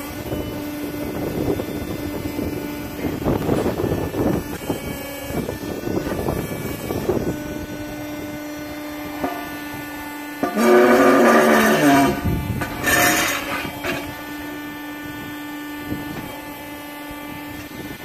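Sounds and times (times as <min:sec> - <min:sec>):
electric hydraulic pump humming: 0:00.0 - 0:18.0
high hydraulic whine: 0:00.0 - 0:18.0
hydraulic surges: 0:00.0 - 0:18.0.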